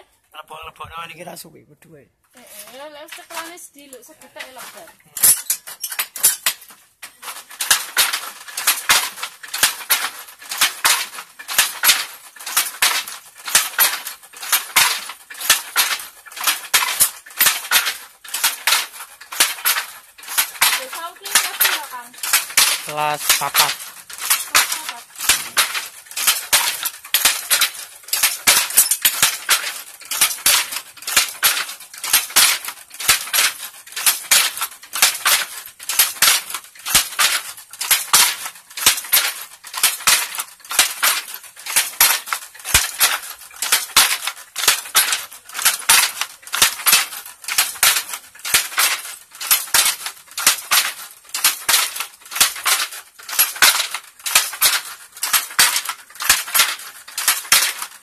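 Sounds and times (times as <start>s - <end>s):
loom shuttle clacking: 0.0s - 58.0s
loom batten beating: 2.2s - 58.0s.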